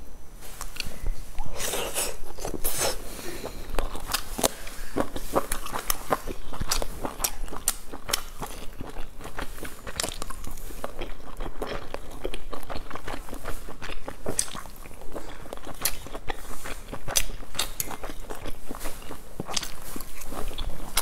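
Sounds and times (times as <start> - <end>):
chewing with mouth clicks: 0.6 - 21.0.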